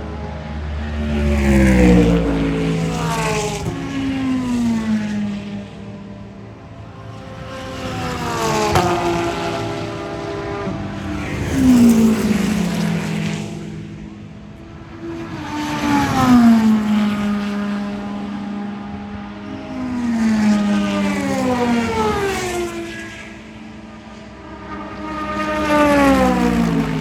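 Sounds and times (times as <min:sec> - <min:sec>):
racing cars passing at speed: 0:00.0 - 0:27.0.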